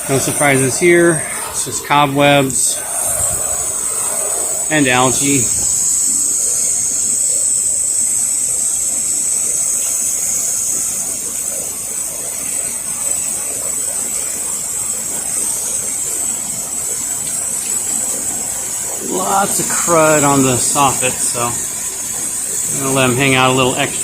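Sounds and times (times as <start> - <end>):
sprayer nozzle hissing: 0.0 - 24.0.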